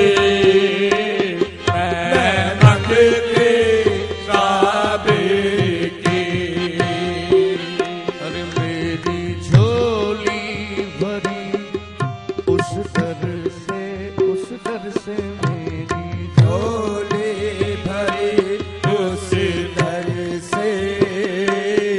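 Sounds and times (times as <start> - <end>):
harmonium: 0.0 - 21.9
man singing: 0.0 - 21.9.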